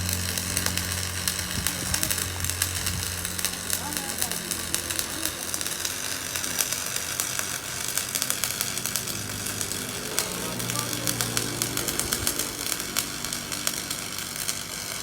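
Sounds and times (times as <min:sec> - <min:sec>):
irregular clicking and crackle: 0:00.0 - 0:15.0
machine humming: 0:00.0 - 0:15.0.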